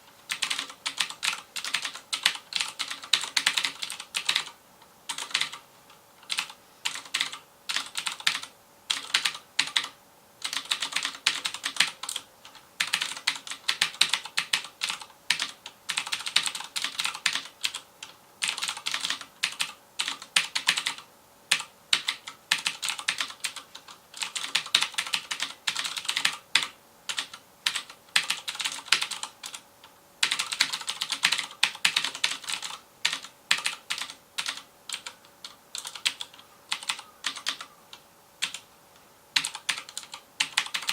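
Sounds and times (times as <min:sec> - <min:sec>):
fast typing on mechanical keyboard: 0:00.3 - 0:05.6, 0:06.2 - 0:29.6, 0:30.2 - 0:37.7, 0:38.4 - 0:38.6, 0:39.4 - 0:40.9.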